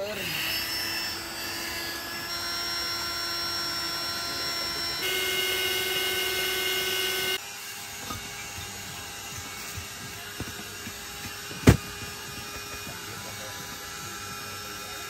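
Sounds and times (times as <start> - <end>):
air mattress pump whining: 0.0 - 15.0.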